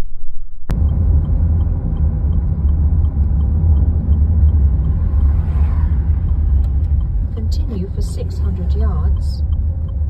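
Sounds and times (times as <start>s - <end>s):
car cabin road and engine rumble: 0.7s - 10.0s
turn indicator ticking: 0.7s - 10.0s.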